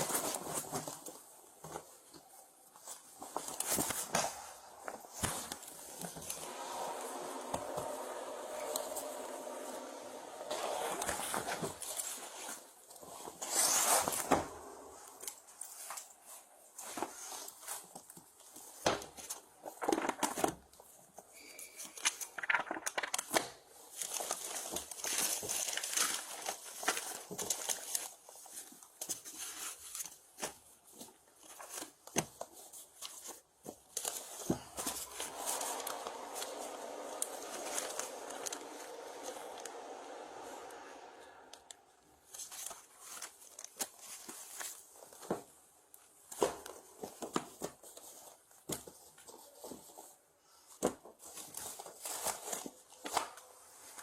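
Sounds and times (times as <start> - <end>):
paper and plastic rustling: 0.0 - 54.0.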